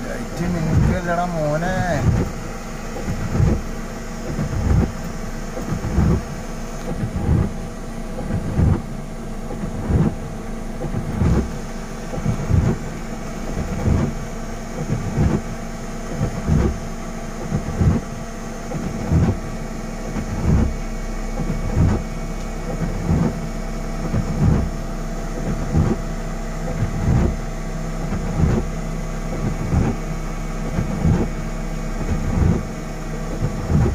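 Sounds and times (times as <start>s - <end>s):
low regular thump: 0.0s - 33.9s
vehicle engine idling: 0.0s - 33.9s.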